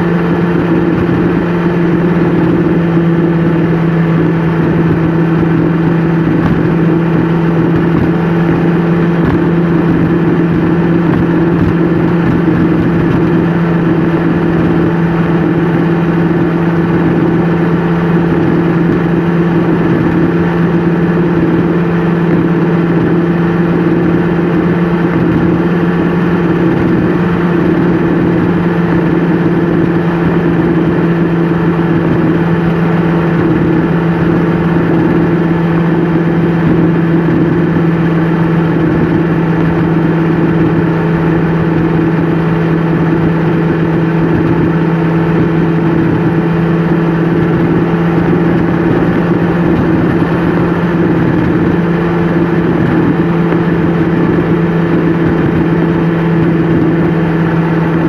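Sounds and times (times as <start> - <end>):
vehicle engine and tyre drone: 0.0 - 58.0.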